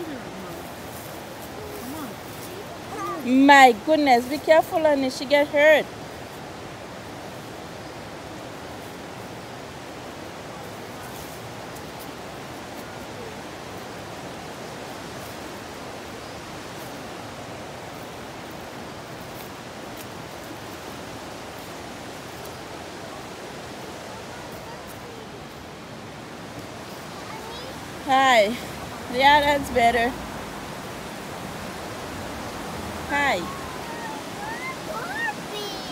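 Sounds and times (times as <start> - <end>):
running water rushing: 0.0 - 35.9.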